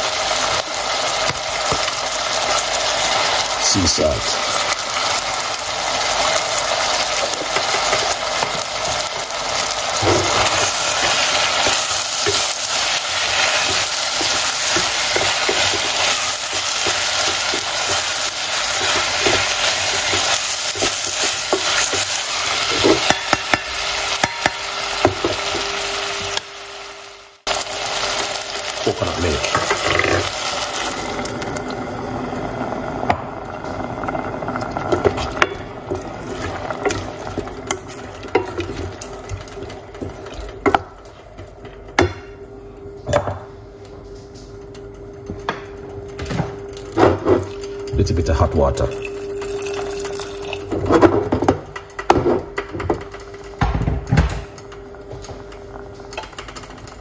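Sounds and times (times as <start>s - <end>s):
vegetables sizzling in a pot: 0.0s - 42.0s, 46.0s - 57.0s.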